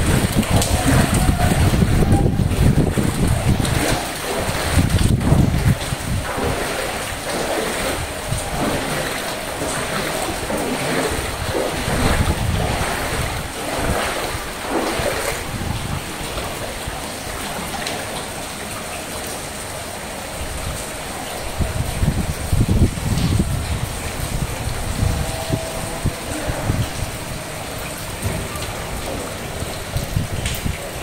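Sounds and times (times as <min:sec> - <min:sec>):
wading through floodwater: 0:00.0 - 0:31.0.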